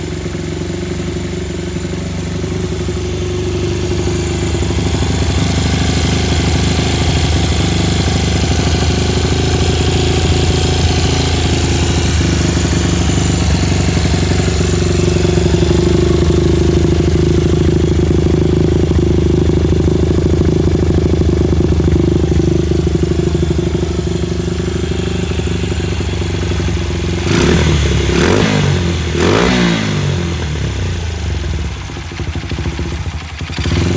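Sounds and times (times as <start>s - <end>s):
small engine idling and revving: 0.0s - 33.9s.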